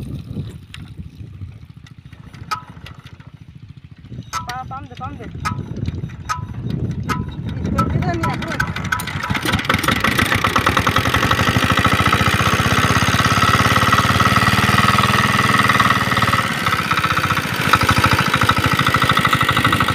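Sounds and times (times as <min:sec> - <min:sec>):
diesel engine knocking: 0:01.8 - 0:19.9.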